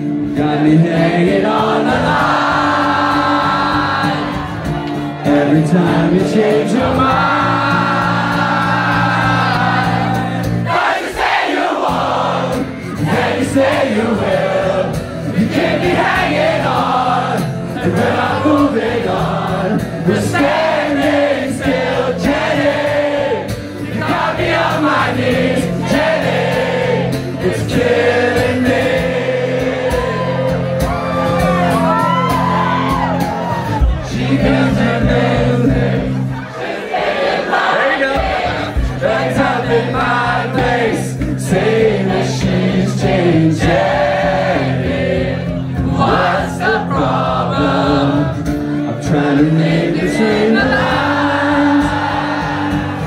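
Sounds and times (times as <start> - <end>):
man singing: 0.0 - 4.4, 5.0 - 10.1, 12.0 - 30.3, 33.8 - 36.2, 37.6 - 52.6
acoustic guitar: 0.0 - 53.0
crowd singing along: 0.0 - 53.0.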